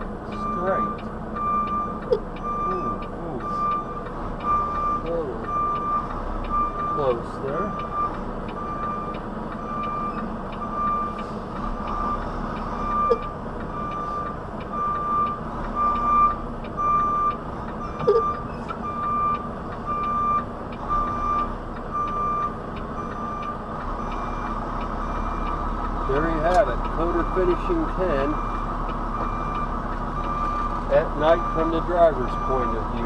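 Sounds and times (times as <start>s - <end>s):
diesel engine running low: 0.0s - 33.0s
truck backup alarm beeping: 0.0s - 33.0s.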